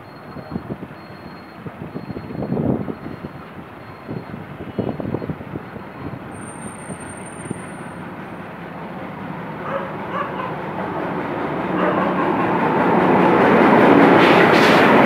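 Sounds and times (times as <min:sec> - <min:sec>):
diesel locomotive approaching: 0:00.0 - 0:15.0.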